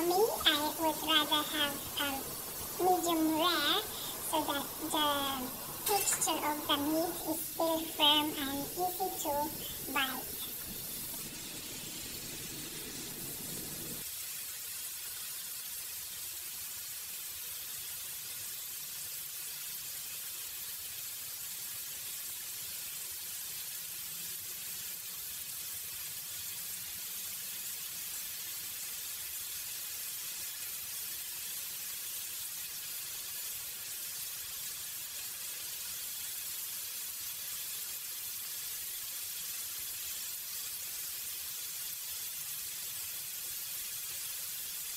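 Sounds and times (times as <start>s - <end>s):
meat sizzling on griddle pan: 0.0s - 44.9s.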